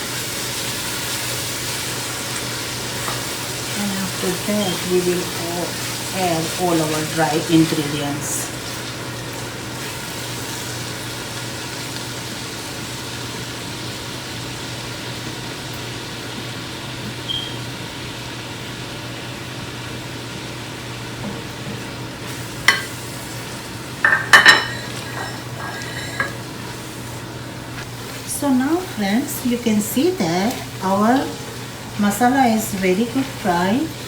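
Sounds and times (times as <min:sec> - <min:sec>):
masala sizzling in oil: 0:00.0 - 0:34.0.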